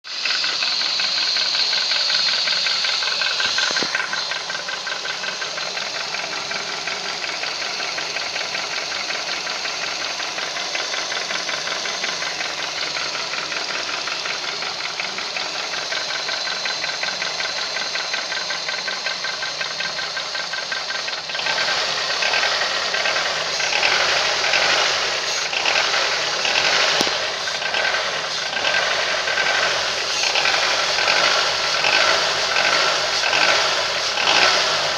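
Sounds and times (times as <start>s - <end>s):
car engine running with knock: 0.1s - 34.9s.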